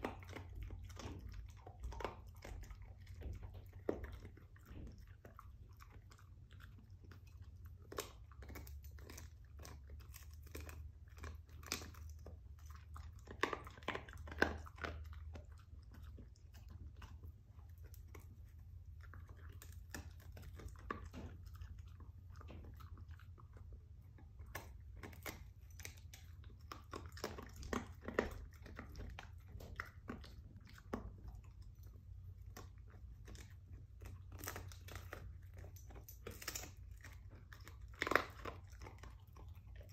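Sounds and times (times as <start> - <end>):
dog chewing rawhide bone: 0.0 - 39.9
low steady hum: 0.0 - 39.9.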